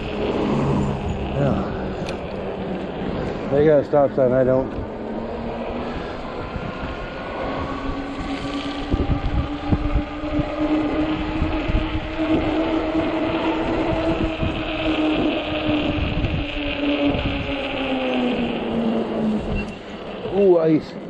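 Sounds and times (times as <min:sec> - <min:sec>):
electric motor whining: 0:00.0 - 0:21.0
wind buffeting microphone: 0:00.0 - 0:21.0.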